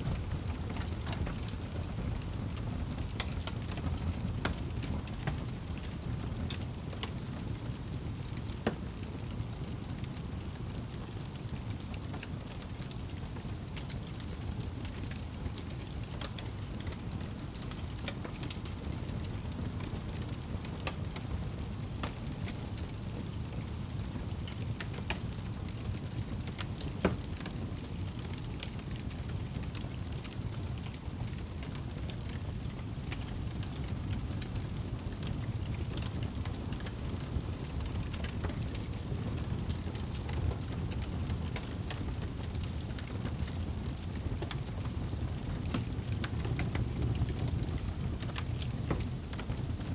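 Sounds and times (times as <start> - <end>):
fire crackles and pops: 0.0 - 49.9.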